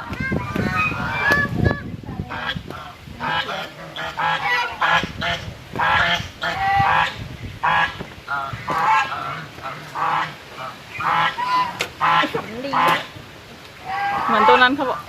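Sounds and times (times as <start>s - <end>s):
geese honking: 0.5s - 13.2s, 13.8s - 15.0s.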